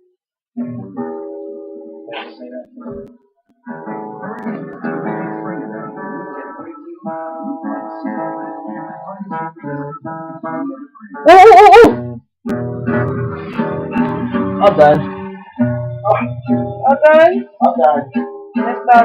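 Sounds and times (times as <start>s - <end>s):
acoustic guitar playing: 0.6s - 19.0s.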